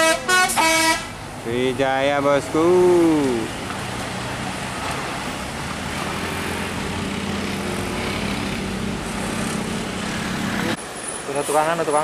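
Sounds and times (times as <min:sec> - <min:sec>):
bus and truck engines droning: 0:00.0 - 0:12.0
tyre and road noise: 0:00.0 - 0:12.0.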